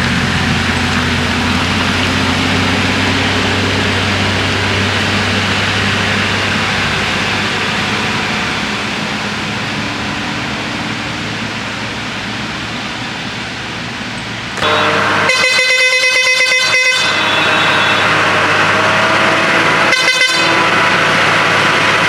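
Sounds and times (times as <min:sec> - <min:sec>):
lorry diesel engine droning: 0:00.0 - 0:22.0.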